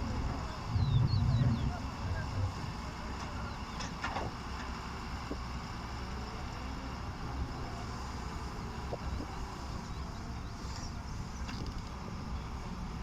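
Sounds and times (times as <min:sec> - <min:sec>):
diesel engine of heavy machinery: 0:00.0 - 0:13.0.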